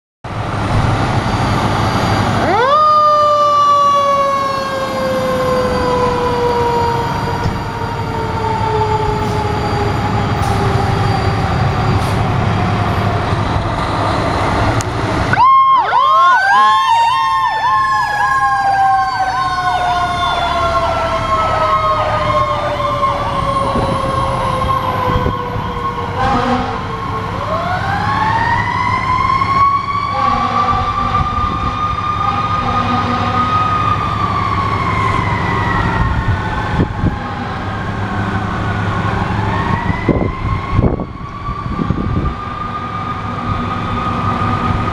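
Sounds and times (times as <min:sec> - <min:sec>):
engine rumble: 0:00.2 - 0:44.9
fire truck siren winding: 0:01.3 - 0:44.9
fast-warbling electronic siren: 0:01.4 - 0:12.0, 0:15.3 - 0:44.9.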